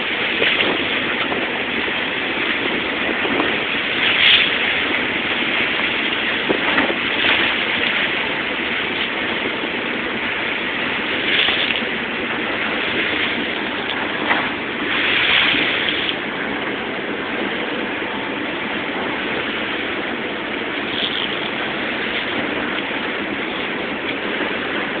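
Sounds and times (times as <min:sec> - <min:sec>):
boat engine running: 0:00.0 - 0:25.0
rushing water under boat: 0:00.0 - 0:25.0.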